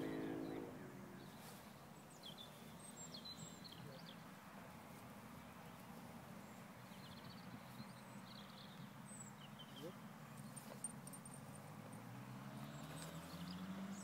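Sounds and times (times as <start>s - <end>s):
quiet outdoor background noise: 0.0s - 14.0s.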